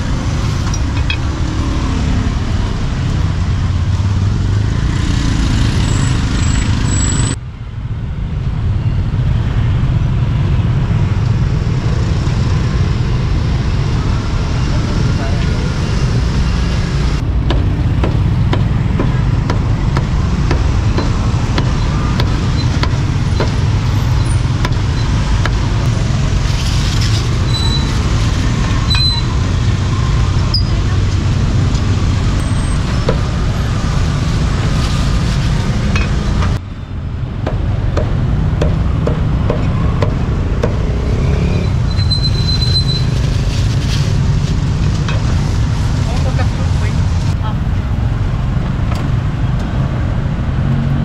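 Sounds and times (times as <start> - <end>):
street traffic rumble: 0.0 - 51.0.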